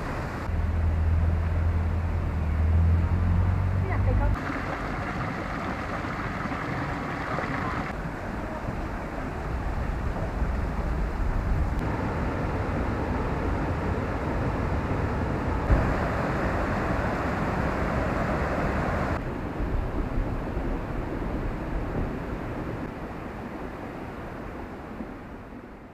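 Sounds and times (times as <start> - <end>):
stream water rushing: 0.0 - 25.8.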